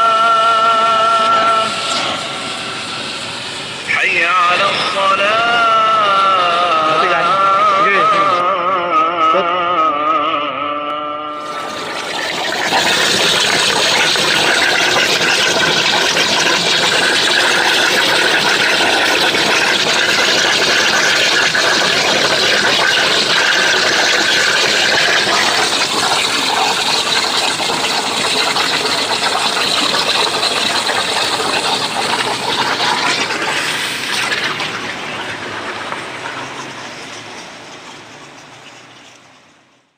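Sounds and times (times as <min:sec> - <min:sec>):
cutting torch hissing: 0:00.0 - 0:07.5, 0:11.4 - 0:37.4.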